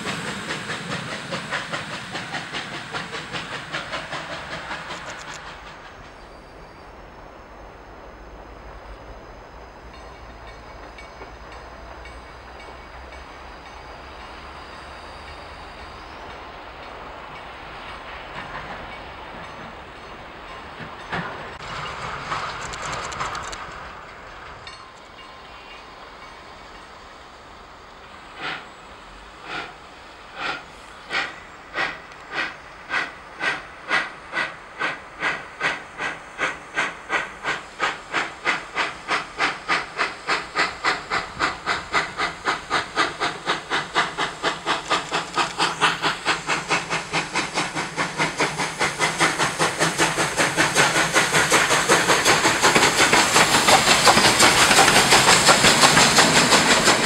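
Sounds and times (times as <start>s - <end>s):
steam hissing from cylinders: 0.0s - 57.0s
steam locomotive exhaust chuffs: 0.0s - 57.0s
train rolling noise: 0.0s - 57.0s.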